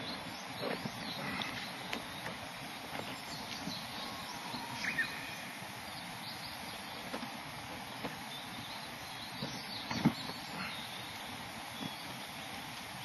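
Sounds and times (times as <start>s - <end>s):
small birds chirping: 0.0s - 13.0s
steady hiss: 0.0s - 13.0s.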